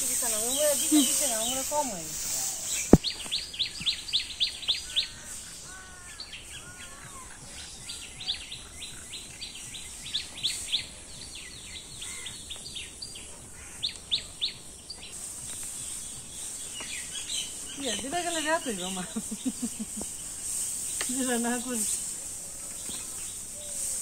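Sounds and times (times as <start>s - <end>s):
high down-slurred bird chirps: 0.0s - 24.0s
steady high hiss: 0.0s - 24.0s.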